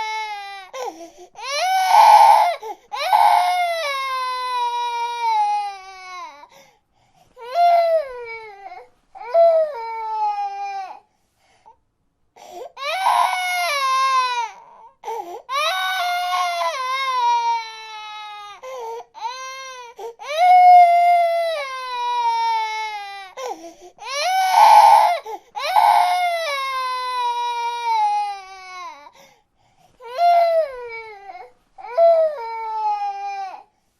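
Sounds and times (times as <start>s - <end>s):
infant crying: 0.0s - 6.6s, 7.4s - 11.1s, 12.4s - 29.2s, 30.0s - 33.7s.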